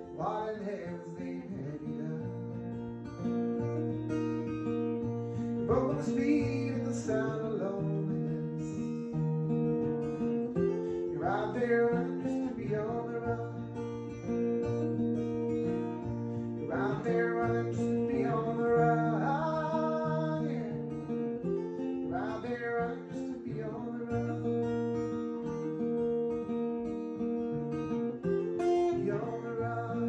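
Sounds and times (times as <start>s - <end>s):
acoustic guitar playing: 0.0s - 30.0s.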